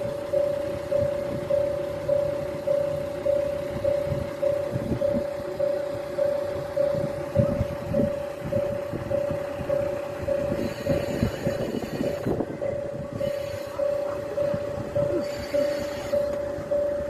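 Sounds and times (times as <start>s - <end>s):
diesel railcar rumbling and clanking: 0.0s - 17.0s
level crossing bell ringing: 0.0s - 17.0s.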